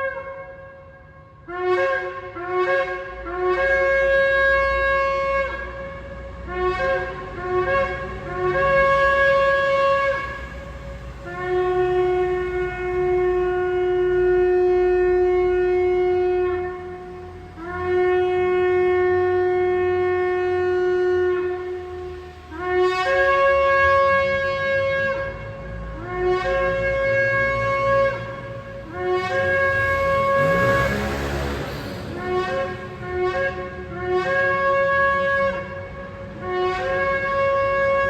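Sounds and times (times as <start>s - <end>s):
ram's horn blasts: 0.0s - 38.0s.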